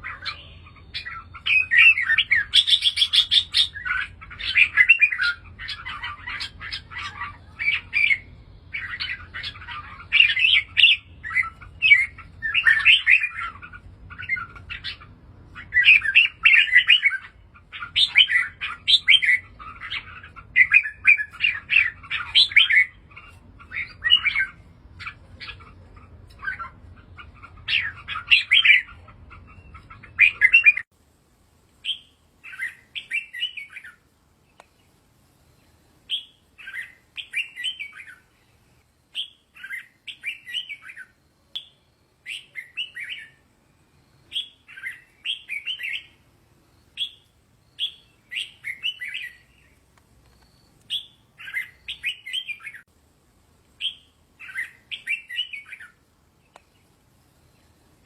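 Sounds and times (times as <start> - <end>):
bird singing chirped phrases: 0.0 - 30.9, 31.8 - 49.8, 50.4 - 52.9, 53.8 - 57.9
faint low hum: 0.0 - 58.0.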